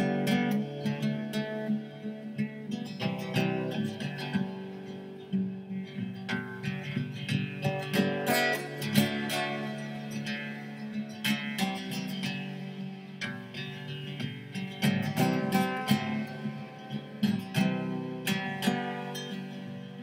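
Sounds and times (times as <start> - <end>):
acoustic guitar plucking: 0.0 - 20.0.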